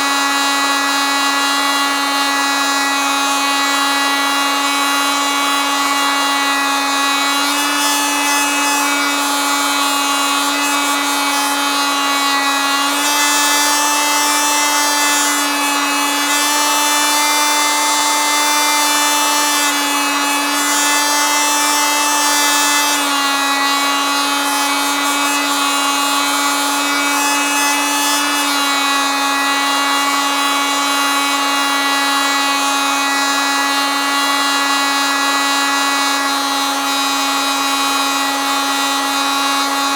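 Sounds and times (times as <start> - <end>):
oscillating multitool buzzing: 0.0 - 36.3.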